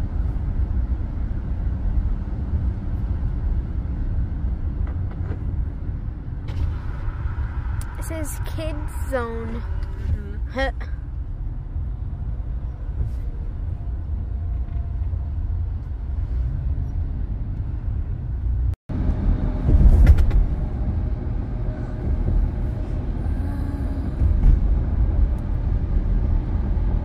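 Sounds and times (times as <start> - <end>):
car road noise: 0.0 - 27.0.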